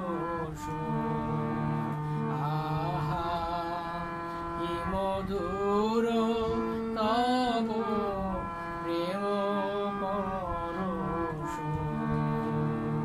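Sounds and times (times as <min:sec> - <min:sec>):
man singing a hymn: 0:00.0 - 0:12.8
sustained accompaniment notes: 0:00.0 - 0:13.0.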